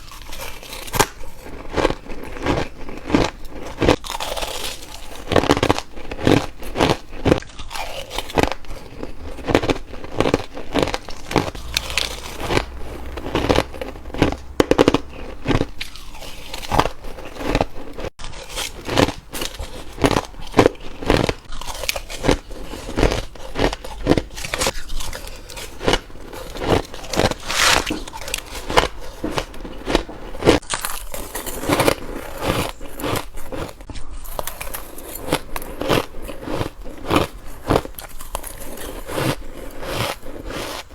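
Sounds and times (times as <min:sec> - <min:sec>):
chewing: 0:00.0 - 0:40.9
ice crunching between teeth: 0:00.0 - 0:40.9.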